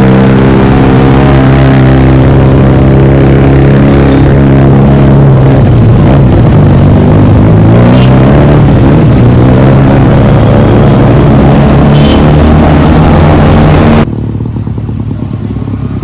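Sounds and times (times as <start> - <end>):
motorcycle engine loud exhaust: 0.0 - 16.0.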